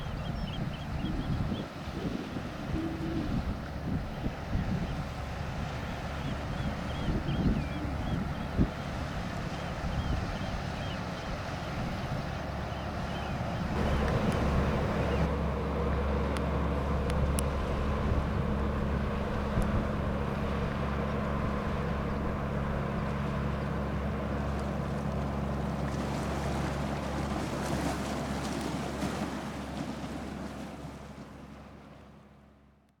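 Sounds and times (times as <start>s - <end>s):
boat engine humming: 0.0s - 32.9s.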